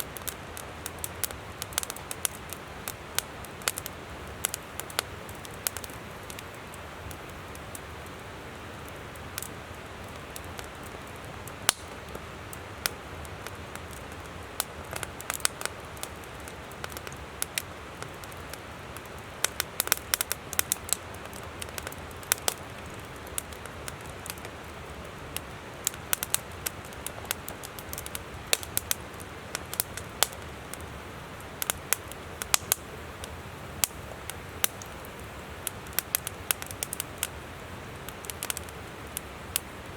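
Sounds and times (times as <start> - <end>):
campfire crackling and snapping: 0.0 - 39.9.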